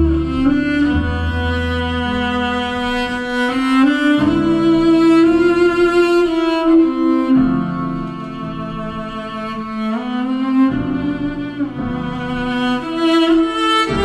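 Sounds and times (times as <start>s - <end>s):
violin and cello slow notes: 0.0s - 14.0s.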